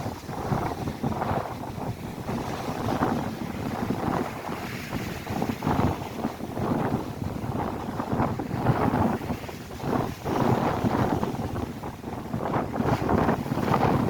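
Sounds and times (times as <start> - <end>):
lake waves crashing: 0.0 - 14.0
wind buffeting microphone: 0.0 - 14.0.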